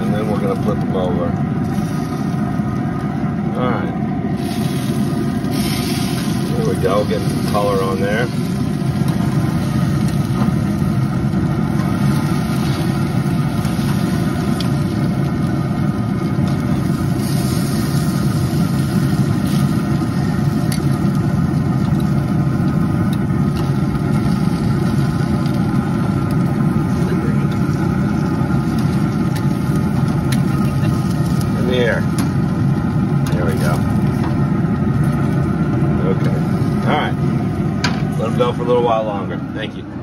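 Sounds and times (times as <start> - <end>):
loud machine hum: 0.0 - 40.0.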